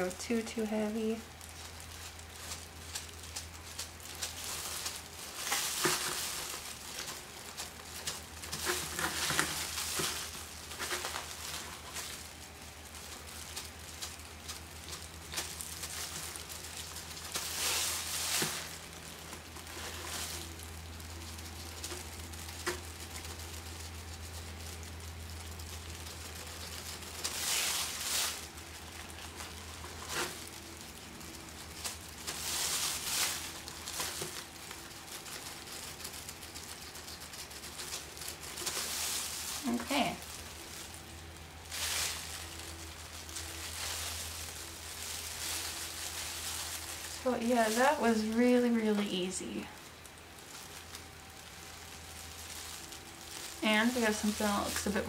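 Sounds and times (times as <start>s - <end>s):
plastic glove crinkling: 0.0s - 55.0s
steady low hum: 0.0s - 55.0s.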